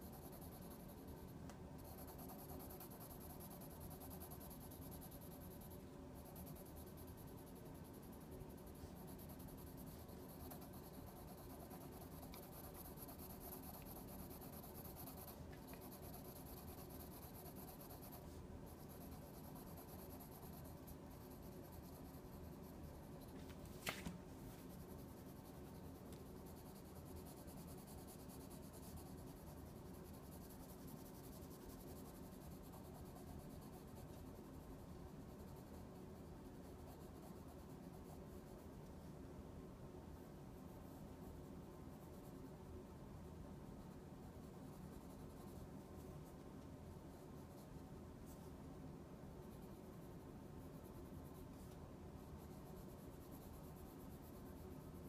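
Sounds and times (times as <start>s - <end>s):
pencil scratching on paper: 0.0s - 23.8s, 24.4s - 39.0s, 43.8s - 46.4s, 49.4s - 55.0s.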